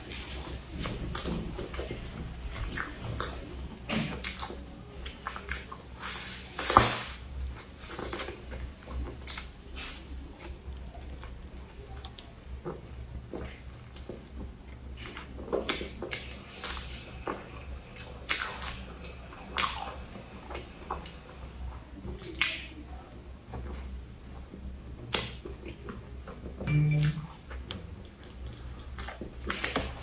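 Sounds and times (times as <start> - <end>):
wet chewing of pastry: 0.0 - 26.2, 27.4 - 30.0
crunches of crumbly crust: 0.0 - 26.6, 27.6 - 30.0.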